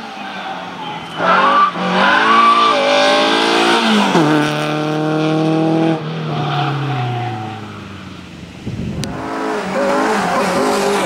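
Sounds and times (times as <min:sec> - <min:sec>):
car engine revving: 0:01.0 - 0:08.0, 0:08.9 - 0:11.0.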